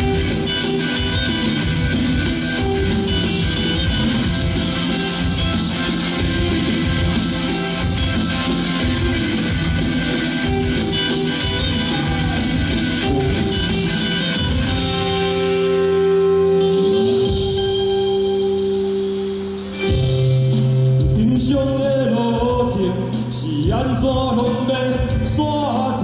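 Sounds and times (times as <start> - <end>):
pop backing track with guitar: 0.0 - 26.0.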